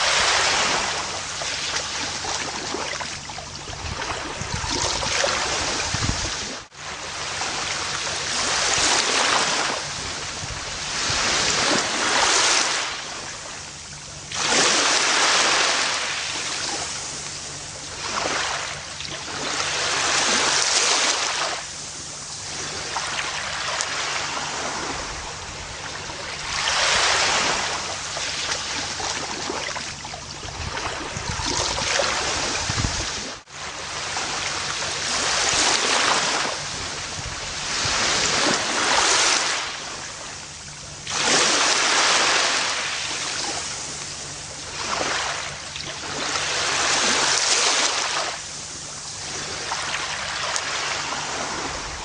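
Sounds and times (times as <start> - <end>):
ocean waves breaking on beach: 0.0 - 52.0.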